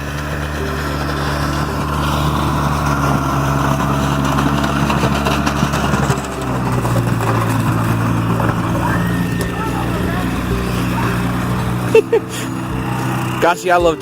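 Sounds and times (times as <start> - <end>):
tires spinning in snow: 0.0 - 14.0
truck engine under throttle: 0.0 - 14.0.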